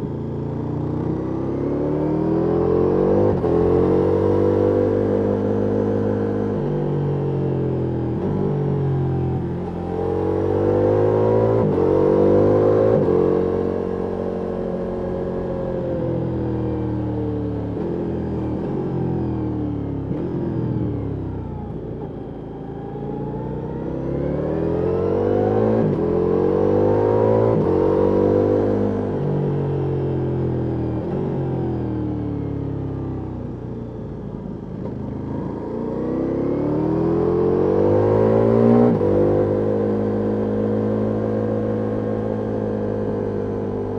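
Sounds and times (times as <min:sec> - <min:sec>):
motorcycle engine revving through gears: 0:00.0 - 0:43.9.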